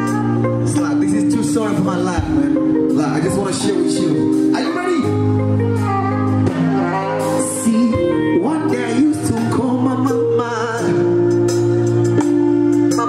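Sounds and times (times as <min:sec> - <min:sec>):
keyboard chords: 0:00.0 - 0:13.0
steady bass: 0:00.0 - 0:13.0.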